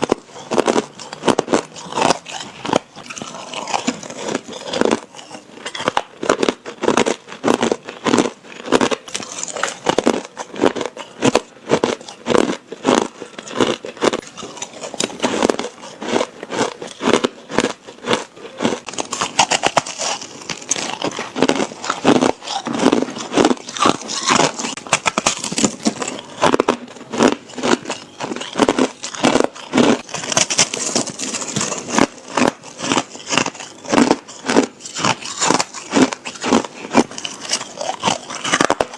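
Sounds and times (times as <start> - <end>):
person chewing hard ice: 0.0 - 38.9.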